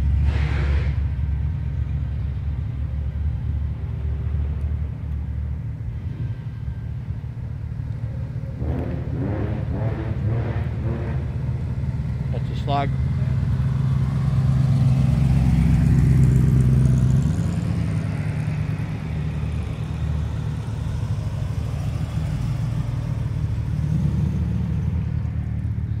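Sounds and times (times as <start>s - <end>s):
hot rod engines passing: 0.0s - 26.0s.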